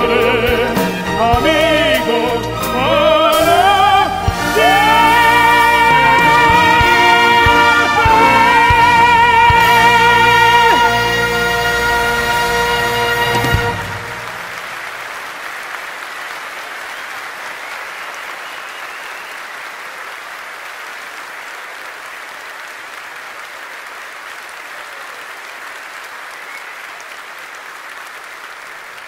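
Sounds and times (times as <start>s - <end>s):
audience applauding: 2.9s - 29.0s.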